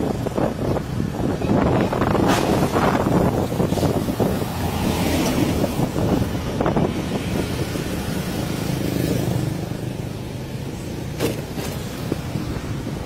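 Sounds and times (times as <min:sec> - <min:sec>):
motorbikes passing: 0:00.0 - 0:13.0
street traffic: 0:00.0 - 0:13.0
wind rumbling on microphone: 0:00.0 - 0:13.0.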